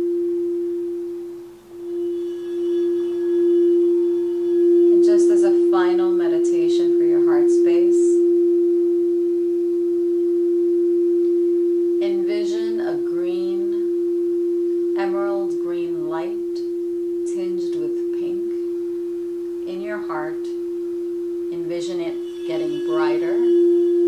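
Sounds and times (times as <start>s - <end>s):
crystal singing bowl ringing: 0.0s - 24.0s.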